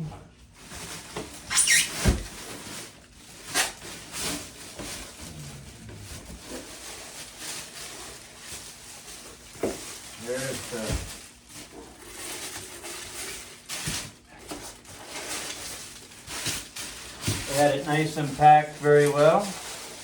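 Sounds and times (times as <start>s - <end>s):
cardboard and foam rustling: 0.4s - 20.0s.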